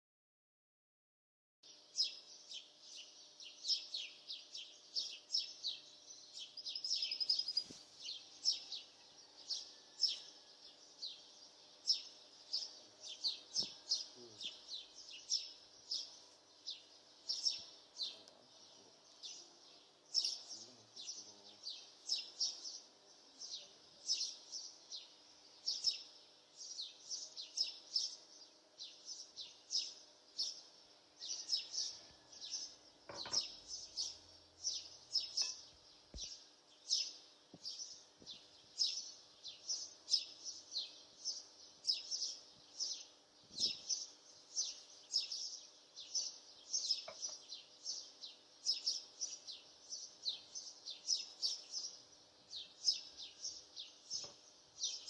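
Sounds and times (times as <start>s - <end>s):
bird chirping: 1.6s - 55.0s
faint steady hum: 1.7s - 55.0s.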